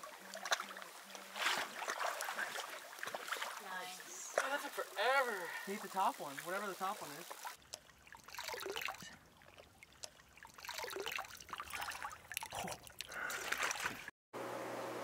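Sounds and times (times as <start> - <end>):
water splashing and dripping: 0.0 - 14.1.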